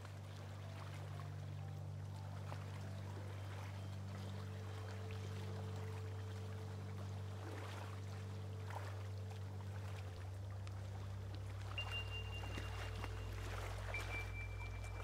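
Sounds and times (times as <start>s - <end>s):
soft ambient music: 0.0s - 15.0s.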